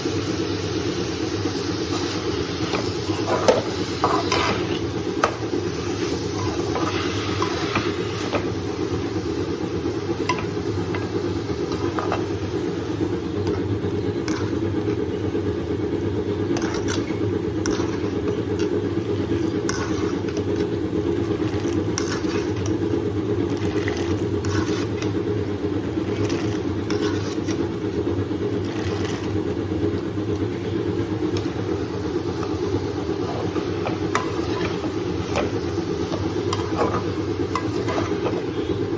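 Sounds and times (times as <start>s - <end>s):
low motor hum: 0.0s - 38.9s.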